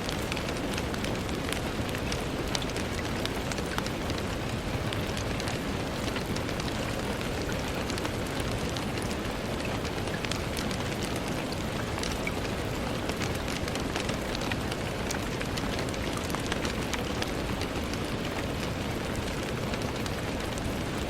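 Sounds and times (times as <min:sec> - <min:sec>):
rain on a window: 0:00.0 - 0:21.0.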